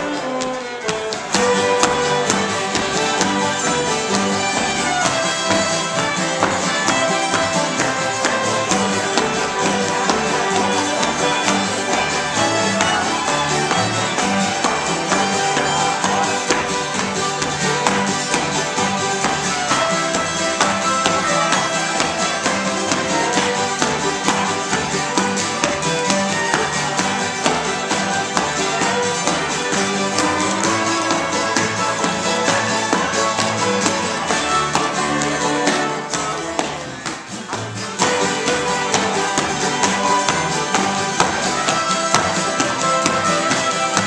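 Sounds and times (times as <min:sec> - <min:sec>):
fiddle: 0:00.0 - 0:44.0
shoes tapping on wooden floor: 0:00.0 - 0:44.0
strummed acoustic guitars: 0:00.0 - 0:44.0.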